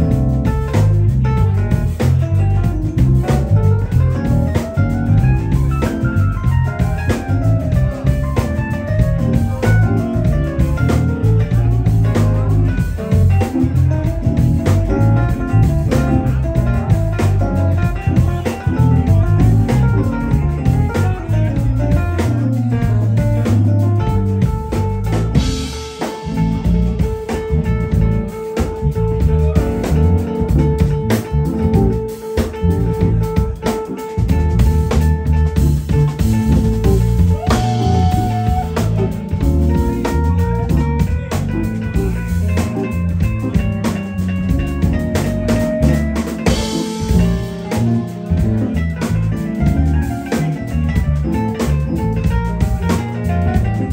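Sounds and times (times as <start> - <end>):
bass: 0.0 - 53.9
drums: 0.0 - 53.9.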